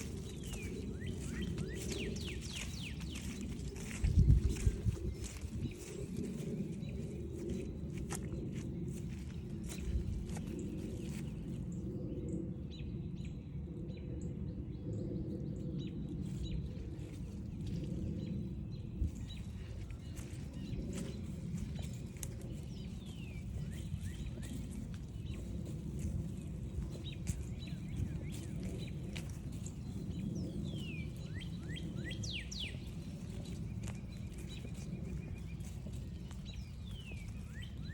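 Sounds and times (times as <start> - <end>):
footsteps on forest trail: 0.0 - 11.8, 16.4 - 37.9
low rumble: 0.0 - 37.9.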